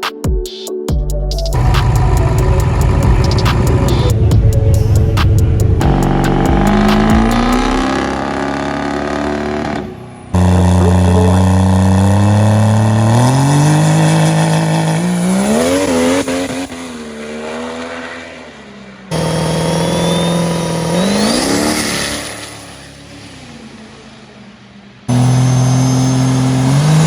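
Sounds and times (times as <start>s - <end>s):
diesel trucks accelerating hard: 1.5s - 27.0s.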